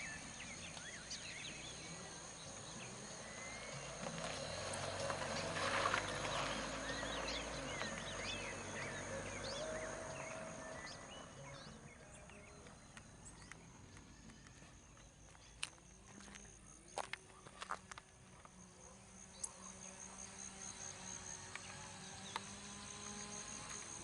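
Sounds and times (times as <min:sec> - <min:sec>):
wild birds chirping: 0:00.0 - 0:24.0.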